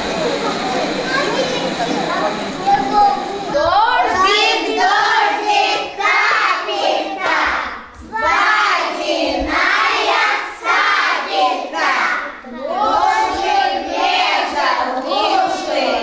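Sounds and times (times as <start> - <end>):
children singing together: 2.6 - 16.0.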